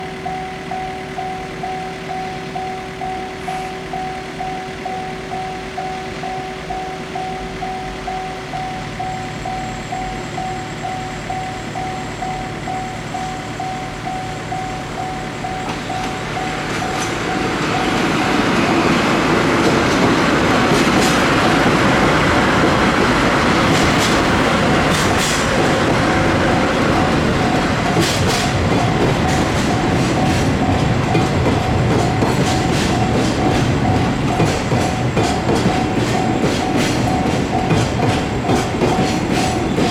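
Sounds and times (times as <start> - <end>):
diesel locomotives passing: 0.0 - 39.9
level-crossing bell ringing: 0.0 - 39.9
wheel-on-rail clacks: 0.0 - 39.9.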